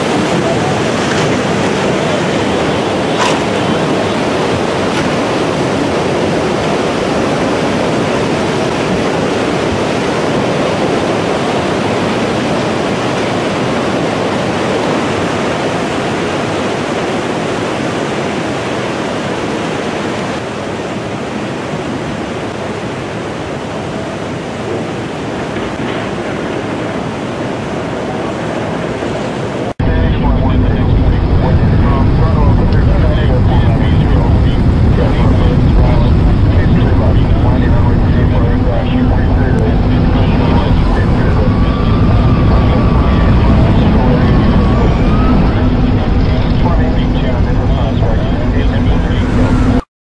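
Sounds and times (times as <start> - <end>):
floodwater rushing: 0.0 - 49.8.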